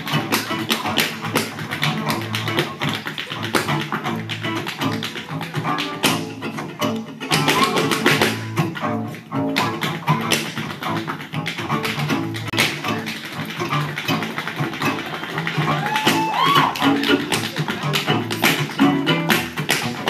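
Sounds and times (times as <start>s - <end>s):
dancer's shoes tapping on stage: 0.0s - 20.0s
fiddle tune with bass and guitar: 0.0s - 20.0s.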